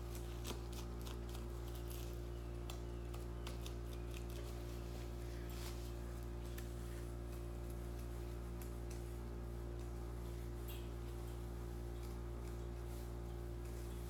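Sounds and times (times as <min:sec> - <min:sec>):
electrical hum: 0:00.0 - 0:14.0
turkey feathers rustling and clicking: 0:00.0 - 0:14.0.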